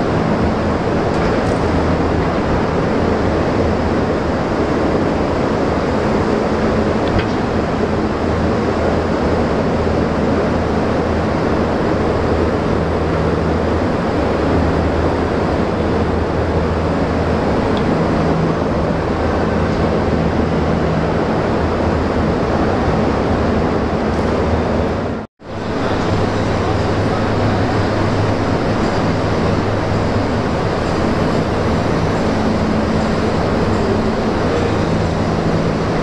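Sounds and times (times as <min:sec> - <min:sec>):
diesel generator running: 0:00.0 - 0:36.0
low hum: 0:00.0 - 0:36.0.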